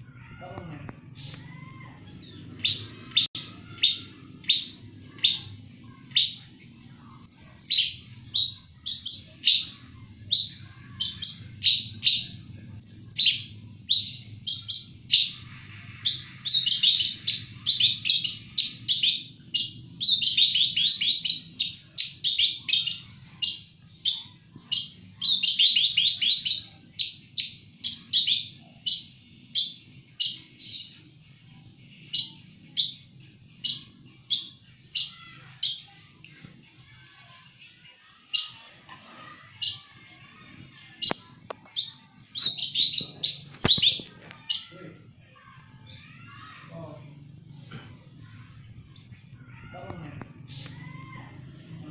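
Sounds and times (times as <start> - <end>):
bird harsh chatter: 1.0 - 51.9.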